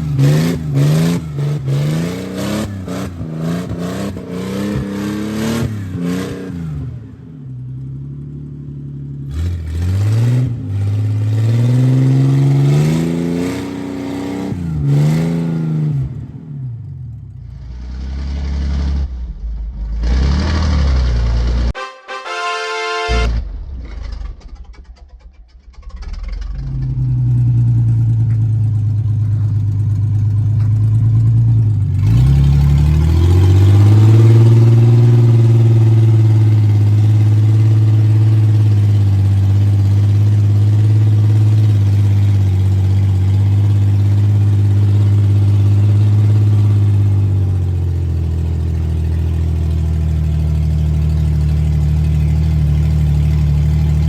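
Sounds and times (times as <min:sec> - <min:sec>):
car engine running: 0:00.0 - 0:15.1, 0:23.1 - 0:54.0.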